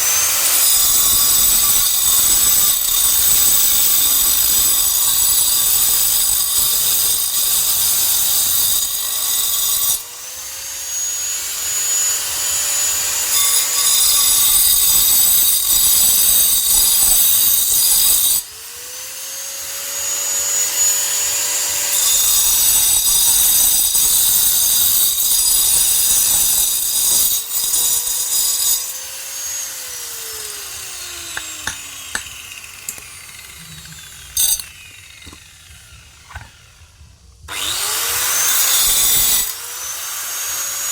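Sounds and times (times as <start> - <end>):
power tool grinding stone: 0.0 - 40.9.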